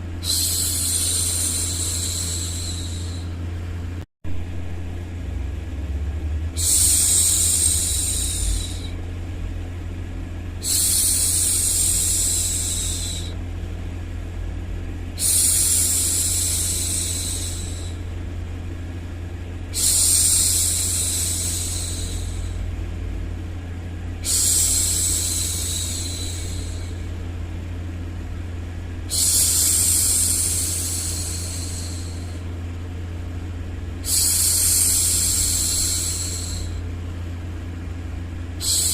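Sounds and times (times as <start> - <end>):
low background hum: 0.0 - 38.9.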